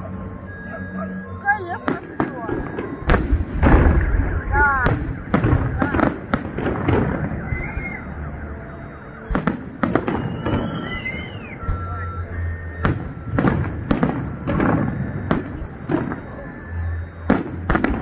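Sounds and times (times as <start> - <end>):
fireworks bursting with sharp bangs: 0.5 - 18.0.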